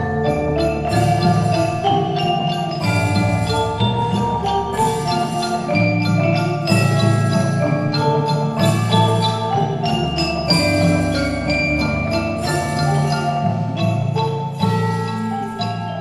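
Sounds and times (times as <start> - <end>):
mallet percussion bell-like notes: 0.0 - 16.0.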